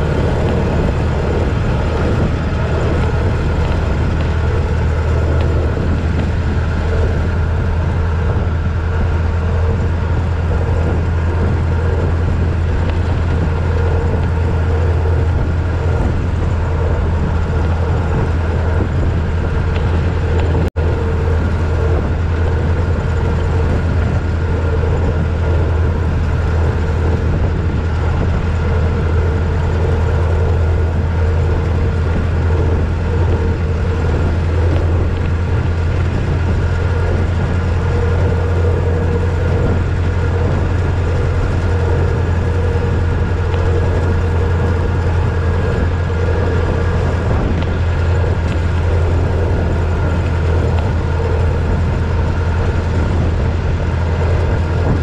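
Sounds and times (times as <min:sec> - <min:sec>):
car engine running: 0:00.0 - 0:55.0
road noise: 0:00.0 - 0:55.0
wind noise: 0:00.0 - 0:55.0.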